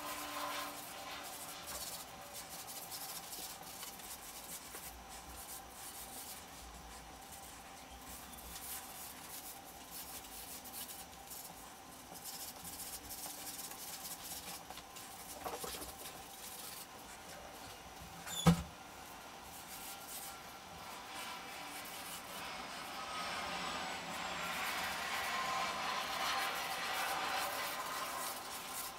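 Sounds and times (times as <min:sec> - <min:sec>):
marker scratching on paper: 0:00.0 - 0:17.1, 0:19.5 - 0:22.4, 0:24.1 - 0:28.9.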